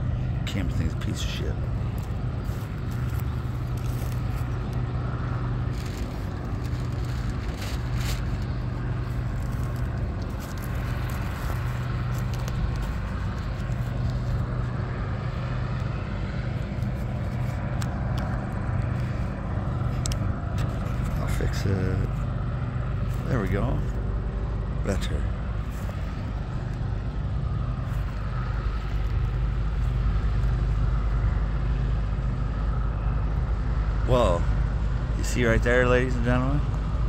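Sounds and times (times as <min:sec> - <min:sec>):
combine harvester droning: 0:00.0 - 0:37.0.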